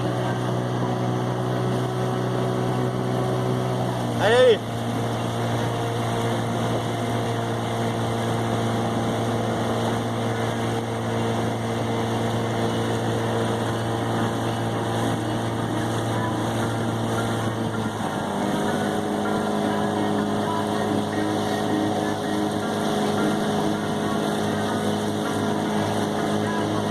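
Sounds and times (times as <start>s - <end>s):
boat motor humming: 0.0s - 26.9s
rushing water: 0.0s - 26.9s
wind: 0.0s - 26.9s.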